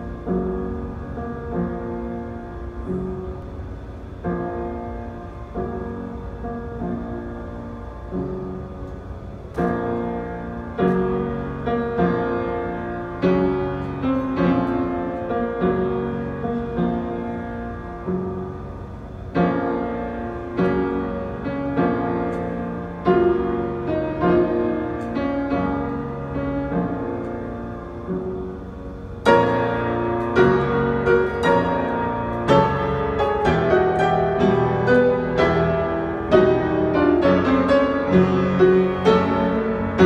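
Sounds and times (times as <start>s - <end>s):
piano playing slow chords: 0.0s - 40.0s.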